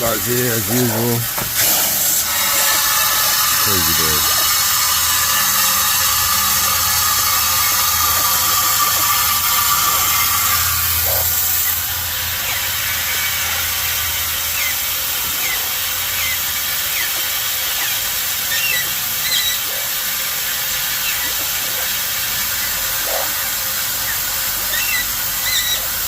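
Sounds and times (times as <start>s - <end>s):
garden hose spraying water: 0.0s - 26.0s
parrots chirping: 2.0s - 26.0s.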